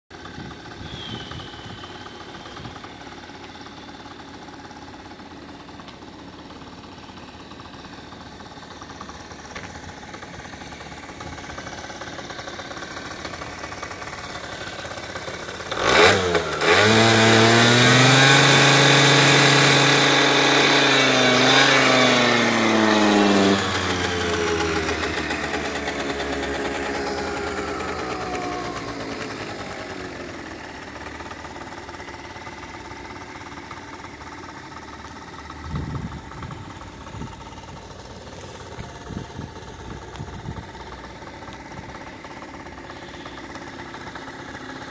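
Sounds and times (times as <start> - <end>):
scooter engine idling and revving: 0.0 - 44.9.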